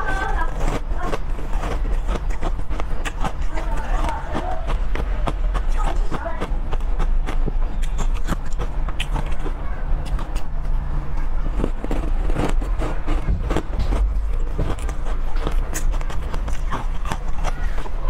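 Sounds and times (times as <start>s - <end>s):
crunching and chewing: 0.0s - 18.0s.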